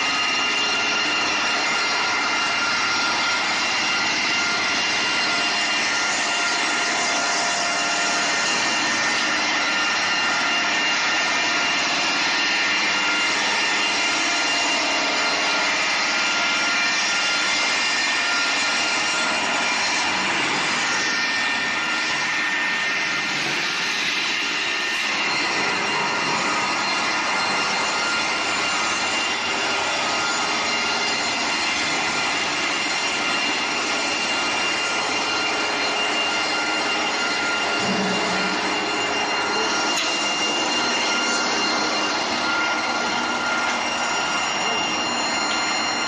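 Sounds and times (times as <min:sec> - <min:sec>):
cross-cut saw machine running: 0:00.0 - 0:46.0.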